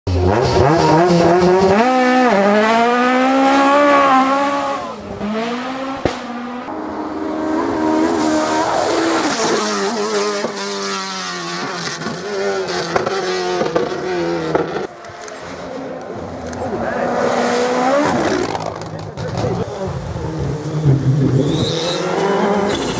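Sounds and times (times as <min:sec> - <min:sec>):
rally car engines revving: 0:00.1 - 0:22.9.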